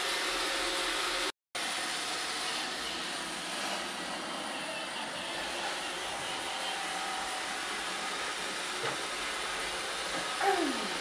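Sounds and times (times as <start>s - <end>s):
robot vacuum cleaner whirring: 0.0s - 11.0s.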